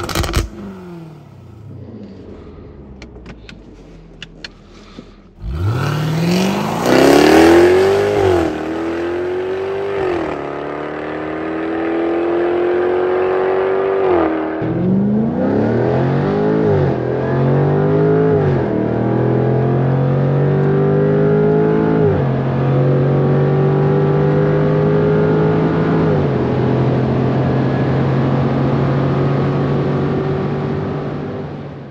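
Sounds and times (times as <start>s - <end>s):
car engine accelerating hard: 5.3s - 31.9s.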